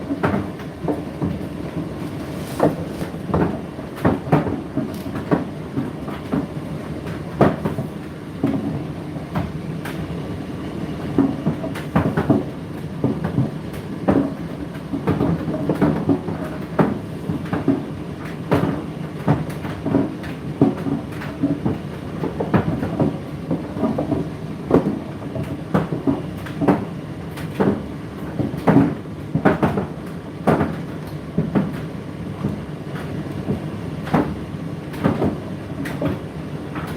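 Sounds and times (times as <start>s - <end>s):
tumble dryer drum humming: 0.0s - 36.9s.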